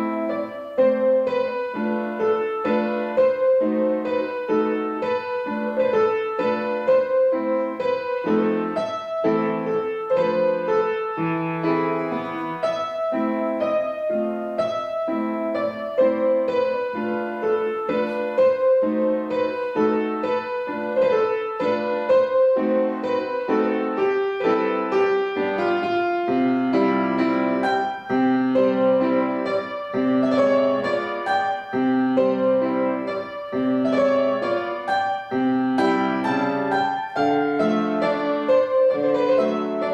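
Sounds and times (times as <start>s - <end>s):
slow solo piano piece: 0.0s - 39.9s.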